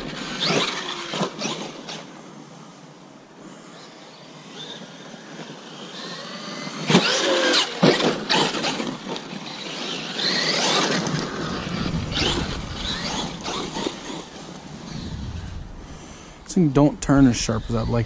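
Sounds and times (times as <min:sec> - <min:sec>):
electric motor whining: 0:00.0 - 0:02.3, 0:03.4 - 0:16.2.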